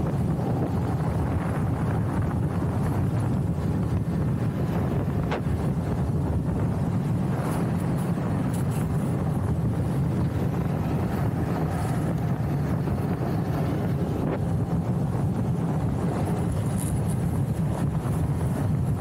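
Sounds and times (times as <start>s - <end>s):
wheels rolling on asphalt: 0.0s - 19.0s
wind rushing over microphone: 0.0s - 19.0s.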